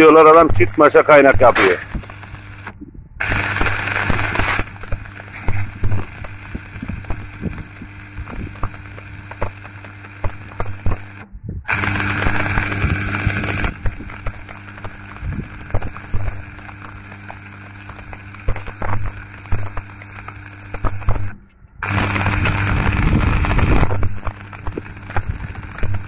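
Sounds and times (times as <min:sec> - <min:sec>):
steady low hum: 0:00.0 - 0:26.0
welding arc crackling: 0:00.0 - 0:26.0.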